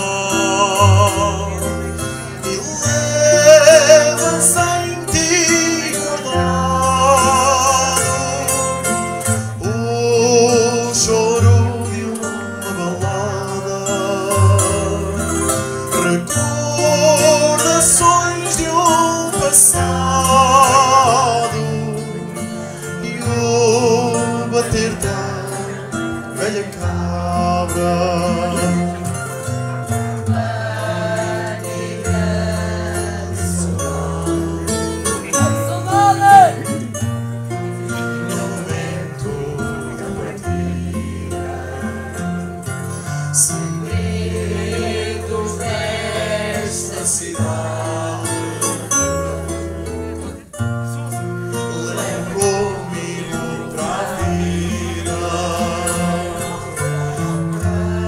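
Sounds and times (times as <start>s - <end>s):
voices singing with vibrato: 0.0s - 29.1s, 30.0s - 50.4s, 51.6s - 58.0s
guitars playing: 0.0s - 58.0s.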